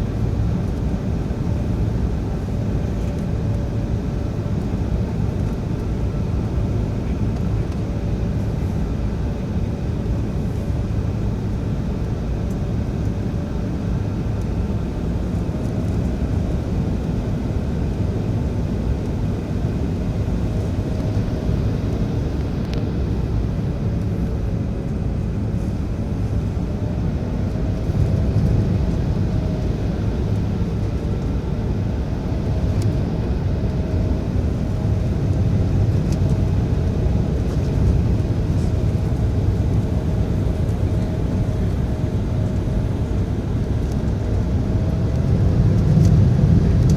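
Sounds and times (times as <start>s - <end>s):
jet cabin engine rumble: 0.0s - 46.9s.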